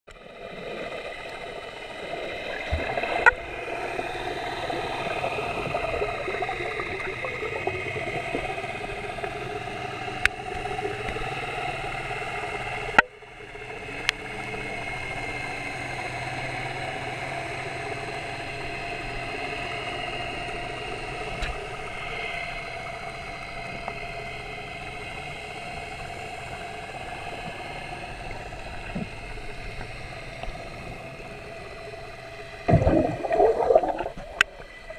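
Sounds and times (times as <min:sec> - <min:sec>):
underwater drone: 0:00.1 - 0:34.9.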